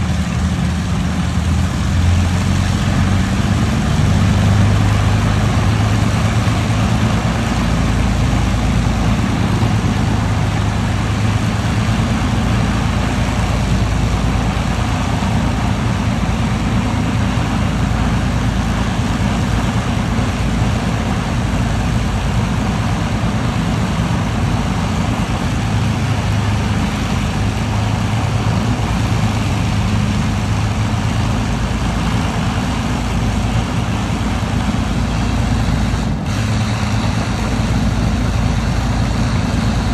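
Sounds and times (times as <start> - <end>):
piston aircraft engine droning: 0.0 - 39.9.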